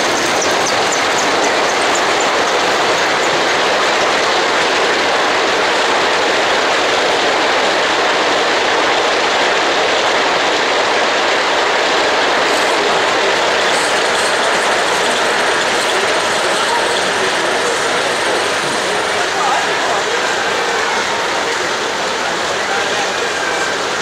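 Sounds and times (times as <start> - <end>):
model train wheels on rail: 0.0 - 24.0.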